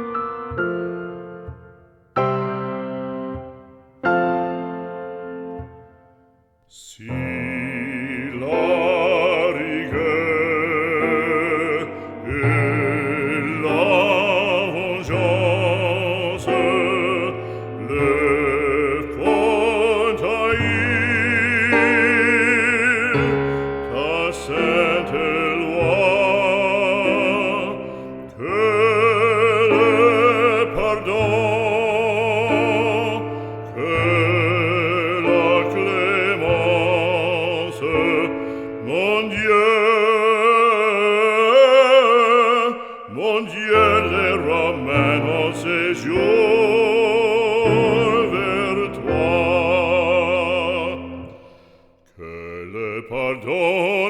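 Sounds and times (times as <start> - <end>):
operatic voice singing: 6.7 - 54.0.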